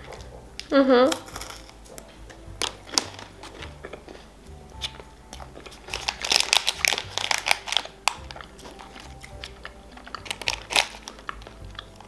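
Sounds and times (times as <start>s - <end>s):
candy wrapper crinkling: 0.0s - 12.0s
soft background music: 0.0s - 12.0s
crunchy chewing: 1.1s - 12.0s.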